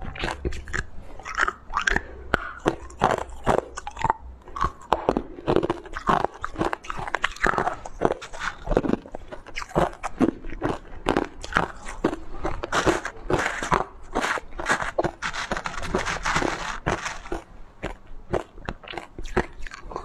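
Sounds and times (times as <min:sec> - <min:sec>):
person crunching ice: 0:00.0 - 0:20.0.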